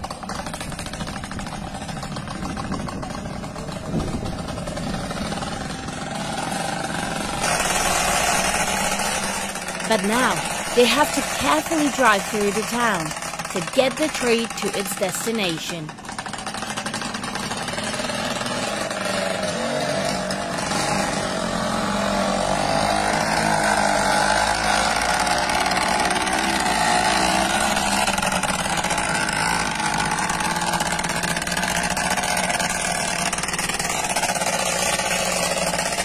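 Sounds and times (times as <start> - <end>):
motorcycle engines running: 0.0 - 36.0.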